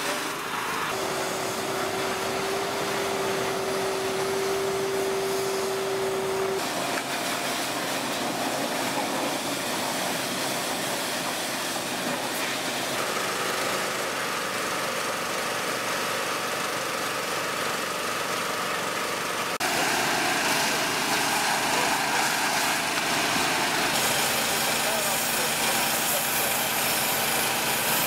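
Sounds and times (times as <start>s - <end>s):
high-pressure water spray hiss: 0.0s - 14.5s, 19.6s - 28.0s
pressure washer engines running: 0.0s - 28.0s.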